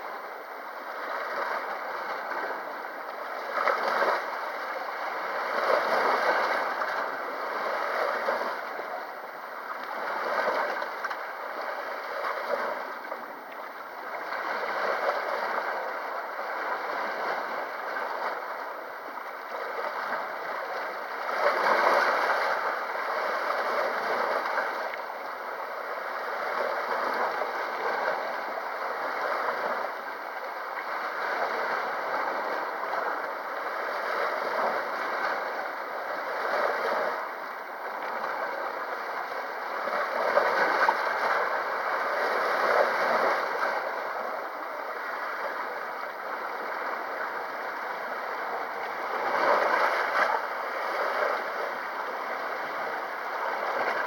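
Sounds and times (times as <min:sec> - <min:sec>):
sea waves washing on shore: 0:00.0 - 0:54.0.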